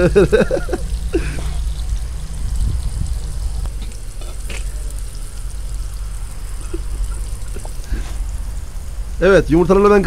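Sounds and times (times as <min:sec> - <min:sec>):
low hum: 0:00.0 - 0:09.5
food sizzling in frying pan: 0:00.0 - 0:10.0.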